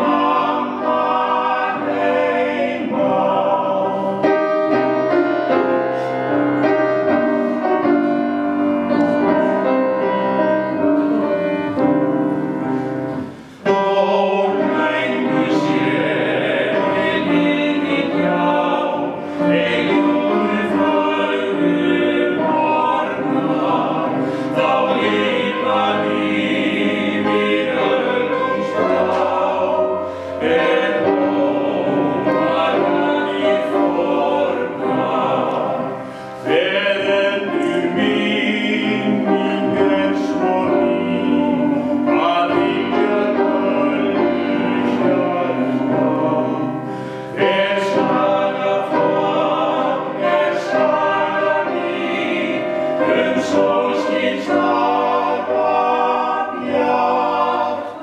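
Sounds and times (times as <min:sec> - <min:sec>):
male vocal quartet singing: 0:00.0 - 0:58.0.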